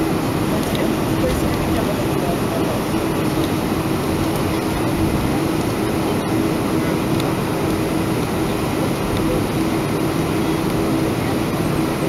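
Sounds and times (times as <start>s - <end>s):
jet engine noise in cabin: 0.0s - 12.0s.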